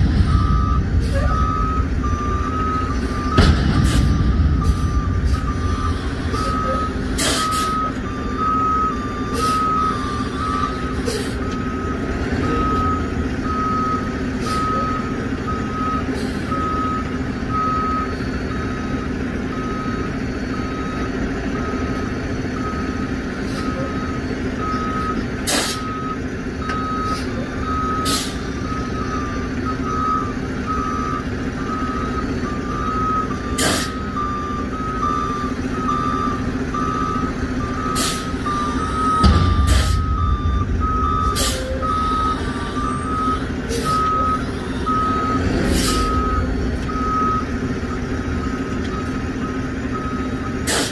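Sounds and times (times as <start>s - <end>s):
diesel engine running: 0.0s - 50.9s
truck reversing alarm beeping: 0.0s - 50.9s.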